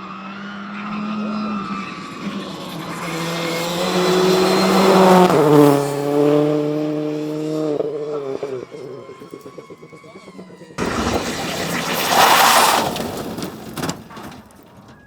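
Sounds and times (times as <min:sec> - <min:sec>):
rally car passing at high revs: 0:00.0 - 0:15.0.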